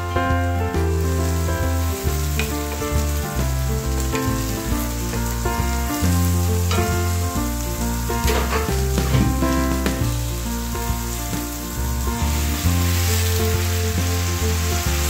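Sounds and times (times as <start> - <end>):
background music with bass: 0.0 - 15.0
vegetables sizzling in hot oil: 0.4 - 15.0.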